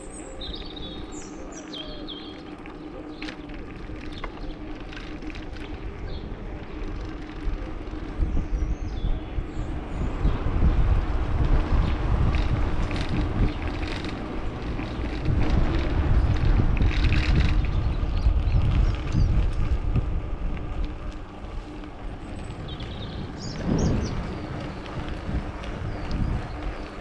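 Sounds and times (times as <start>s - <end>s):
bicycle tyres rolling: 0.0s - 27.0s
wind buffeting microphone: 0.0s - 27.0s.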